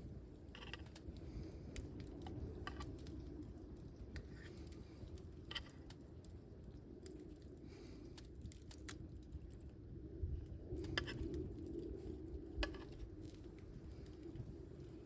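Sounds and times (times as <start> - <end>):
campfire crackling and popping: 0.0 - 15.0
low wind rumble: 0.0 - 15.0.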